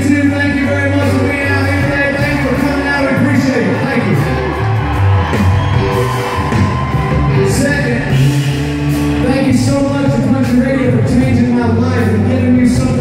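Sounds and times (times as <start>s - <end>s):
live country band playing: 0.0s - 13.0s.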